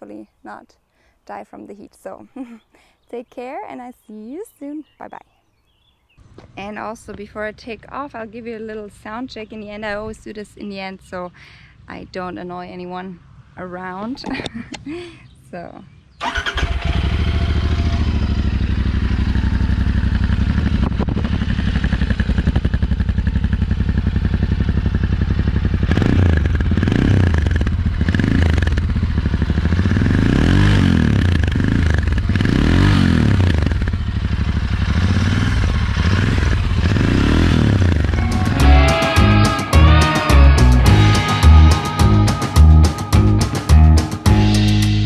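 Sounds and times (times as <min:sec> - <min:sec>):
motorcycle engine idling and revving: 0:06.2 - 0:14.3, 0:15.9 - 0:45.0.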